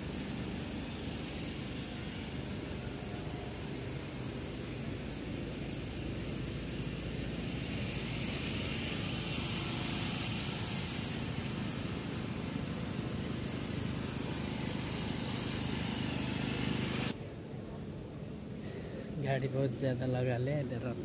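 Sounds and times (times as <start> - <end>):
vehicle engines: 0.0 - 21.0.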